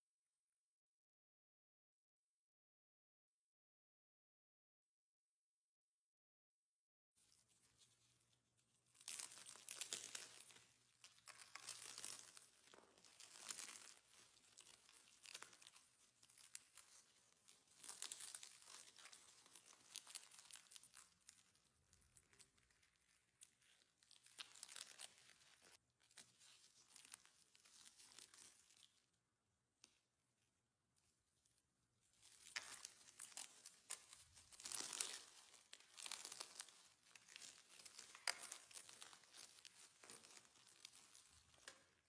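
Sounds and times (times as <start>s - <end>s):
faint crackling and crinkling: 7.2s - 42.0s.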